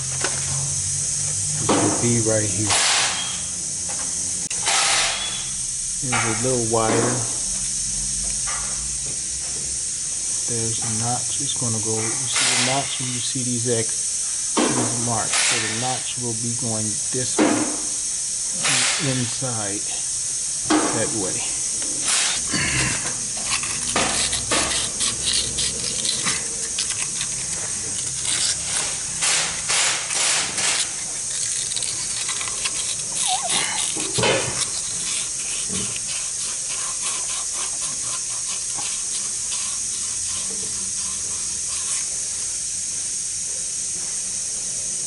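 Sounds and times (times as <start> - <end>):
steady high hiss: 0.0 - 45.0.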